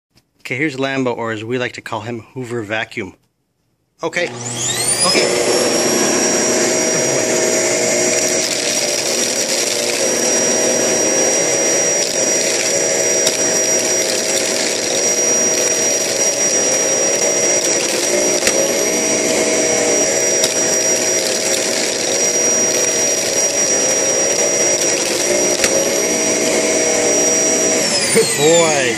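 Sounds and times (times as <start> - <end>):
vacuum cleaner motor whining: 4.2 - 28.9.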